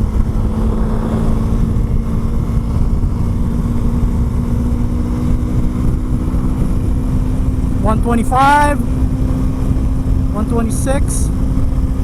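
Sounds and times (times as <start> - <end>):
low rushing noise: 0.0 - 12.0
motorcycle engine droning: 0.0 - 12.0.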